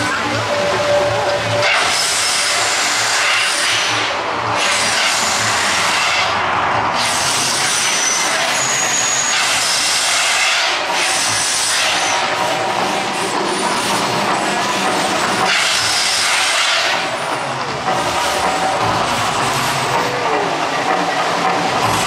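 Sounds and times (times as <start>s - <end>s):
gas flame jets whooshing: 1.5s - 20.6s.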